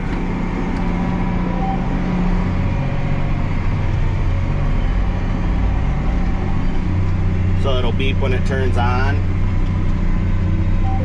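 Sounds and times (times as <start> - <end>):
spreader engine droning: 0.0 - 11.0.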